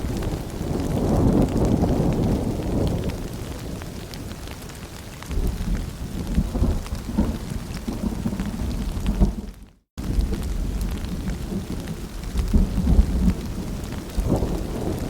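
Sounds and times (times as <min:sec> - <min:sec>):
low thunder rumble: 0:00.0 - 0:04.6, 0:05.3 - 0:15.0
rain pattering: 0:00.0 - 0:15.0.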